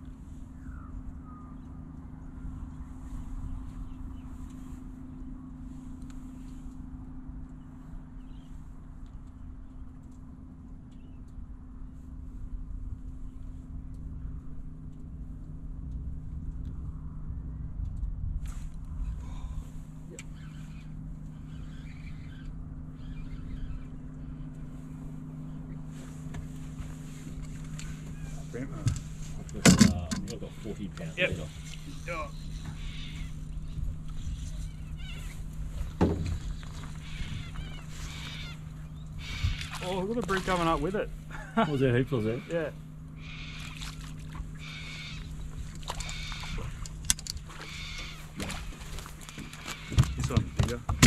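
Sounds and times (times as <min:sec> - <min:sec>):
wind rumble on microphone: 0:00.0 - 0:39.8, 0:43.6 - 0:51.0
boat motor humming: 0:00.0 - 0:51.0.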